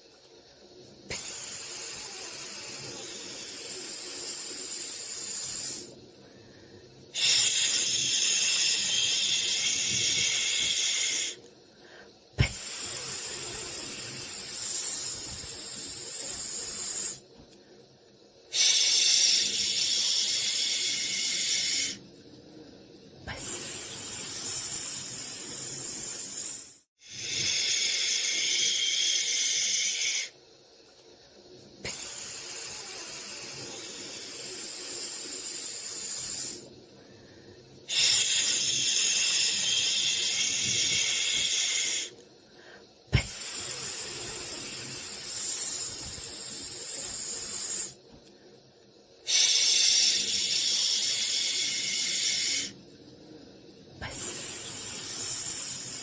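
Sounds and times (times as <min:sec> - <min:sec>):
person hissing shhh: 0:01.1 - 0:17.2, 0:18.5 - 0:22.0, 0:23.3 - 0:30.4, 0:31.8 - 0:48.0, 0:49.2 - 0:52.8, 0:54.0 - 0:56.0.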